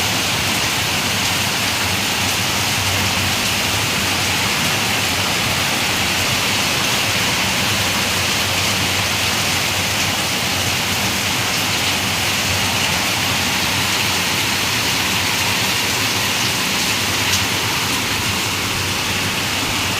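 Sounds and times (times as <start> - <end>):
heavy rain hissing: 0.0 - 19.9.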